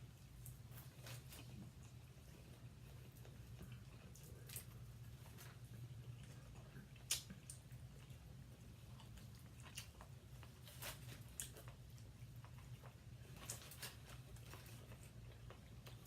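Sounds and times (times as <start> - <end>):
low steady hum: 0.0 - 16.0
soft chewing and smacking: 0.0 - 16.0.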